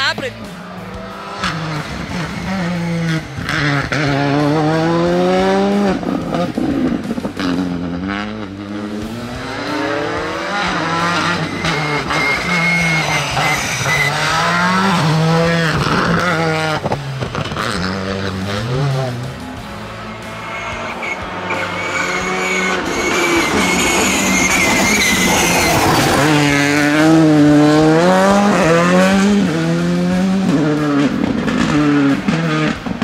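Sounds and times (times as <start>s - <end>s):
rally car engine revving past: 0.4s - 33.0s.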